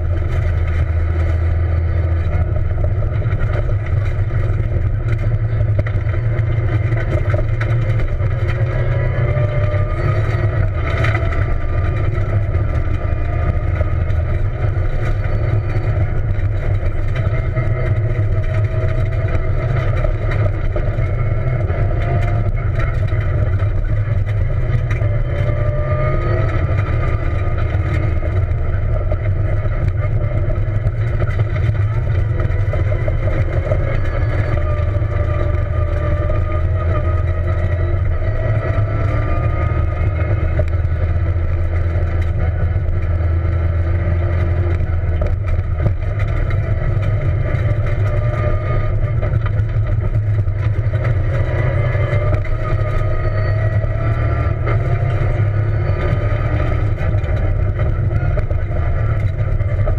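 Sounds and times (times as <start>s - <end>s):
car engine revving: 0.0s - 59.9s
stones ticking: 0.0s - 59.9s
tyres rumbling on gravel: 0.0s - 59.9s.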